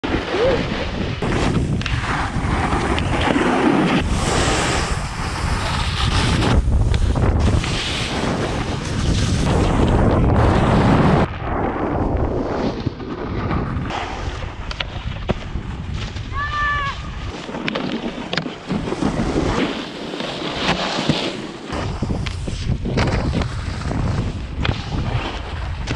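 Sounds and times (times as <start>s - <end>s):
wind rushing over microphone: 0.0s - 20.2s, 21.7s - 25.9s
snowboard scraping over snow: 0.0s - 25.9s.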